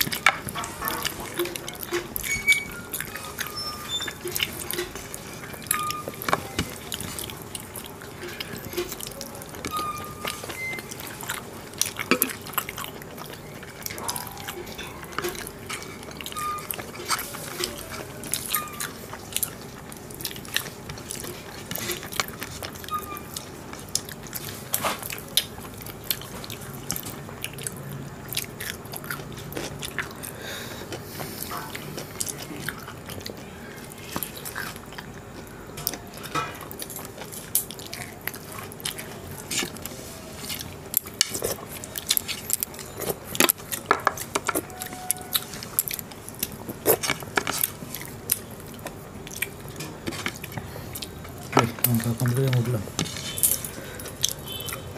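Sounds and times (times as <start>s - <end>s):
fingers mixing food: 0.0s - 54.9s
people chewing: 0.0s - 54.9s.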